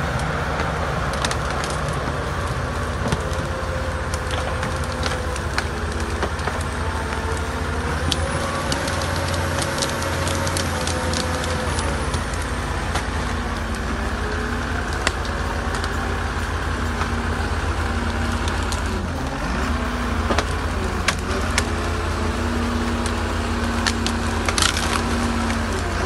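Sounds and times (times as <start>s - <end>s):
branches snapping under tyres: 0.0s - 26.0s
diesel engine working under load: 0.0s - 26.0s.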